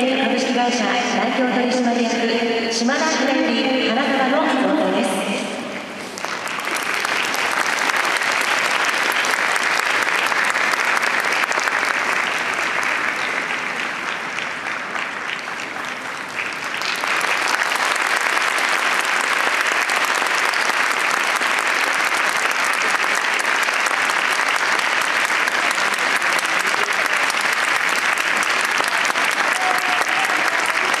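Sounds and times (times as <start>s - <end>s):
stadium crowd applauding: 6.0s - 31.0s.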